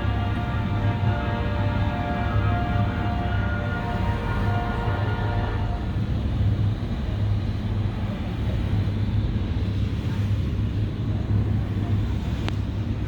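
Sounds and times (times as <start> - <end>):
boat engine drone: 0.0 - 13.0
rushing water noise: 0.0 - 13.0.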